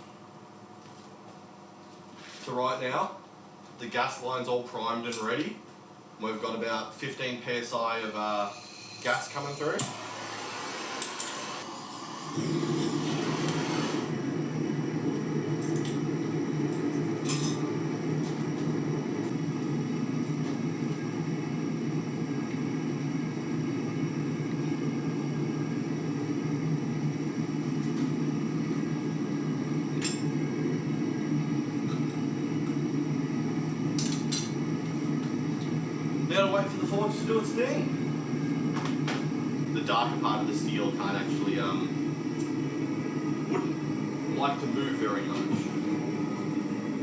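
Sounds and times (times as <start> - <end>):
gas hissing: 8.0 - 47.0
burner rumbling: 9.3 - 47.0.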